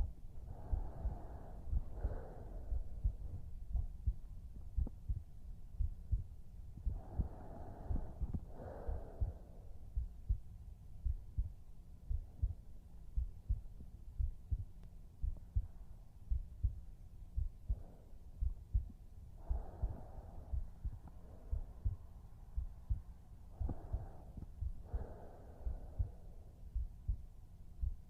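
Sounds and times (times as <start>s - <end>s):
heartbeat thumping: 0.0s - 28.0s.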